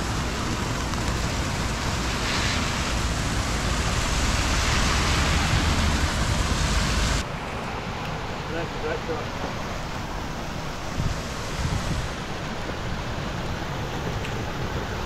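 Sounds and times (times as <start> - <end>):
heavy rain falling: 0.0 - 7.2, 8.5 - 15.0.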